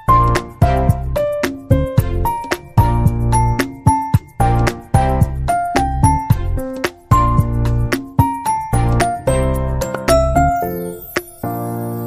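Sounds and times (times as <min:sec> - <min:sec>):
steady beat: 0:00.1 - 0:11.3.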